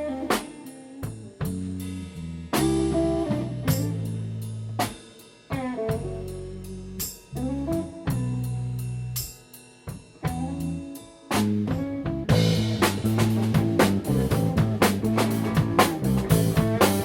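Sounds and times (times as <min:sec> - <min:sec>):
drum and cymbal hits: 0:00.3 - 0:17.0.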